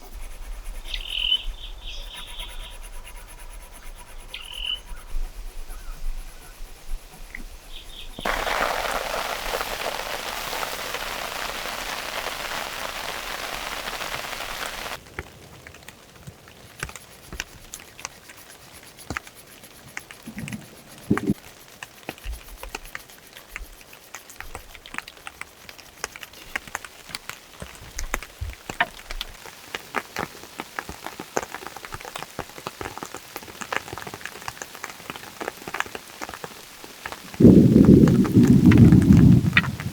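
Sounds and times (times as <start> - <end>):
heavy rain hiss: 4.2 - 15.1, 15.9 - 39.9
raindrops pattering: 7.3 - 39.9.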